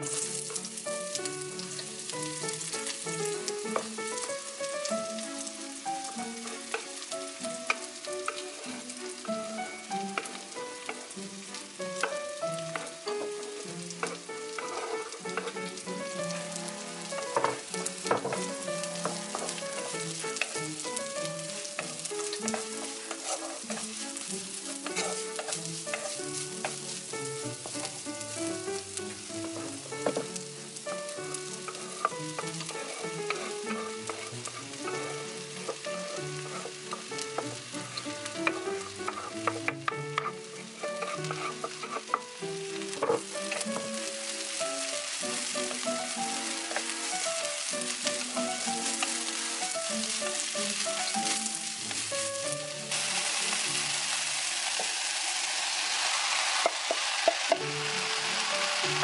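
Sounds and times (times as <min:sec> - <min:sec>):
shallots sizzling in hot oil: 0:00.0 - 0:59.0
wooden spatula scraping pan: 0:00.0 - 0:59.0.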